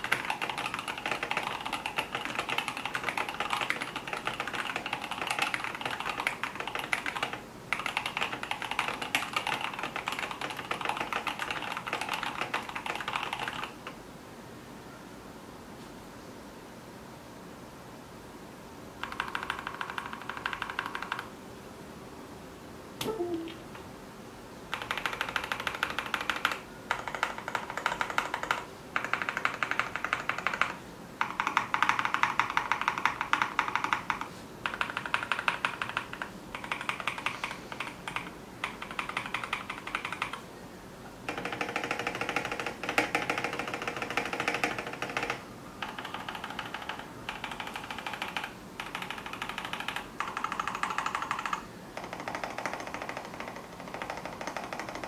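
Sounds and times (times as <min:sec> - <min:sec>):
typing on mechanical keyboard: 0:00.0 - 0:14.0, 0:19.0 - 0:21.3, 0:24.7 - 0:40.4, 0:41.3 - 0:55.0.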